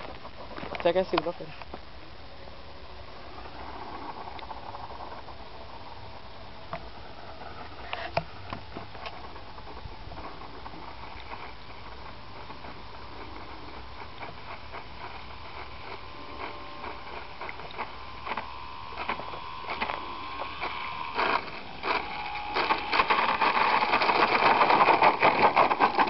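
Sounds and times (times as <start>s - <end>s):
model airplane motor whining: 2.5s - 26.0s.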